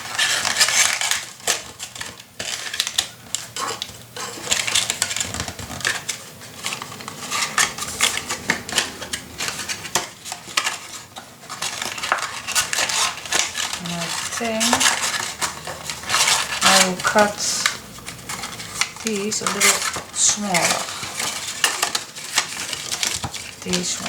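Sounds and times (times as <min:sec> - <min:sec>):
paper rustling: 0:00.0 - 0:24.0.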